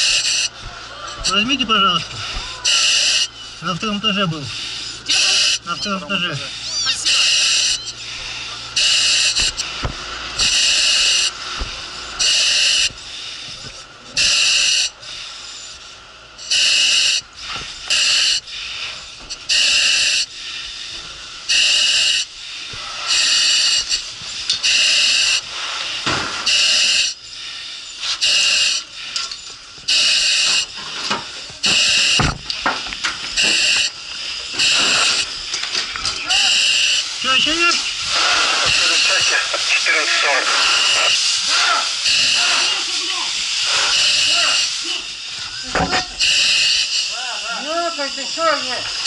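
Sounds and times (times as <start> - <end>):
breathing apparatus hissing: 0.0 - 5.8, 6.4 - 30.9, 31.6 - 32.2, 33.2 - 49.0.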